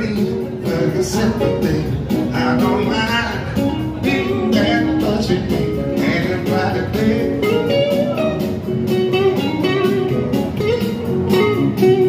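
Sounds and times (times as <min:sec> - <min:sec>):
backing beat: 0:00.0 - 0:12.0
electric guitar lead lines: 0:00.0 - 0:12.0.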